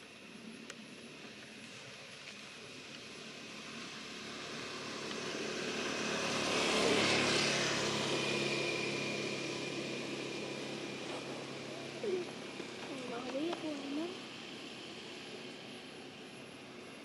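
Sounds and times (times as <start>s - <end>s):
propeller aircraft flying over: 0.0s - 17.0s.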